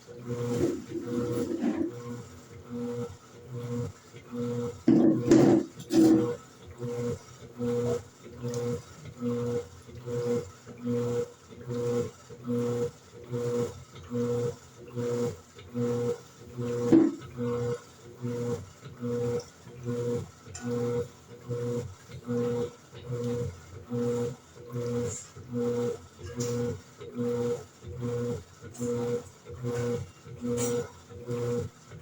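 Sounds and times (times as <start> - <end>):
washing machine agitator humming: 0.0 - 32.0.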